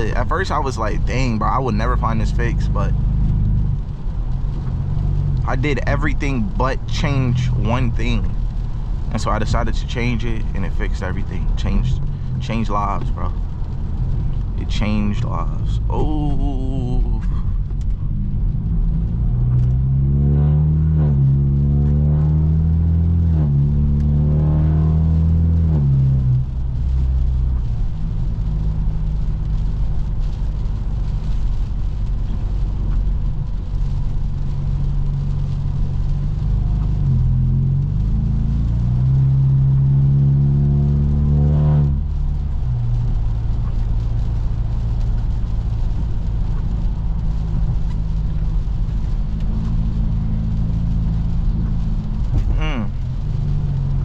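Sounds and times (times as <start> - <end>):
car engine accelerating through gears: 0.0 - 31.6, 32.2 - 54.0
car engine droning while cruising: 0.0 - 54.0.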